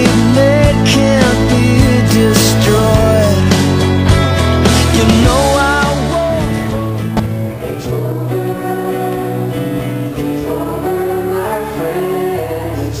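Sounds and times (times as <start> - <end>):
man singing: 0.0 - 3.6, 4.6 - 13.0
acoustic guitar: 0.0 - 13.0.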